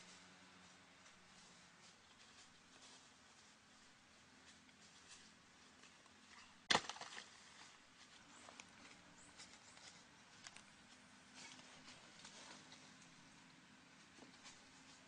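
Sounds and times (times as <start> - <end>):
crunching in dry leaves: 0.0 - 15.0.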